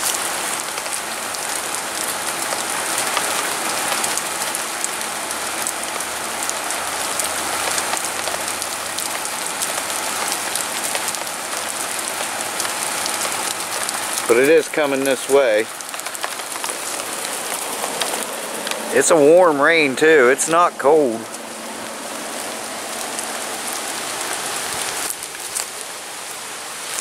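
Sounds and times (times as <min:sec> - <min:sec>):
raindrops ticking: 0:00.0 - 0:27.0
steady rain falling: 0:00.0 - 0:27.0.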